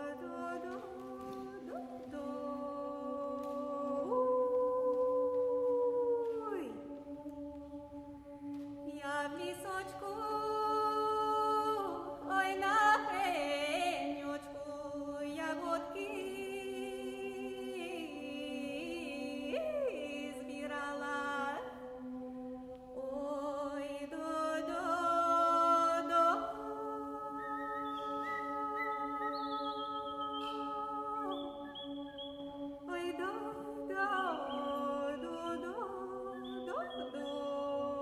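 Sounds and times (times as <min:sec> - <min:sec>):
women singing a cappella: 0:00.0 - 0:38.0.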